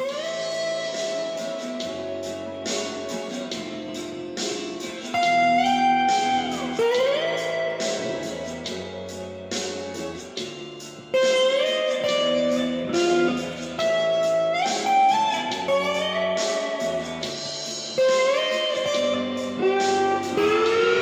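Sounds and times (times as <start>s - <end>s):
electric slide guitar melody: 0.0s - 21.0s.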